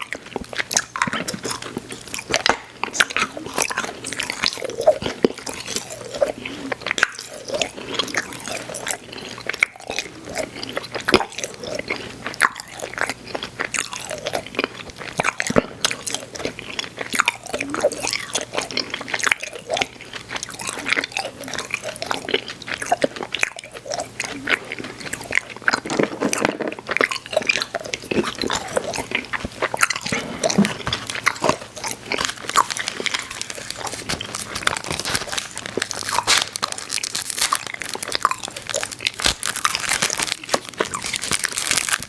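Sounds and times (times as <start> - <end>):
person chewing candy: 0.0 - 42.0.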